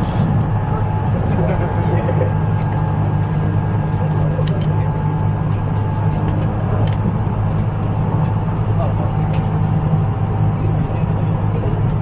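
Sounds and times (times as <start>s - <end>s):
train running rumble inside car: 0.0s - 12.0s.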